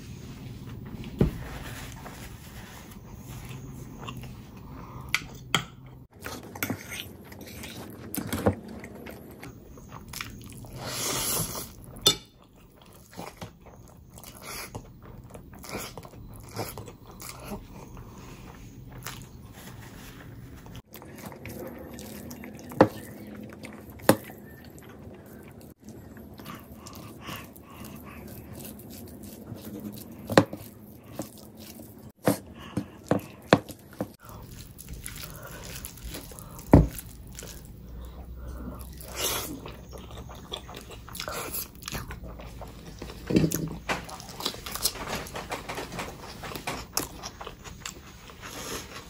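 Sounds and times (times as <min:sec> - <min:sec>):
person chewing food: 0:03.0 - 0:49.0.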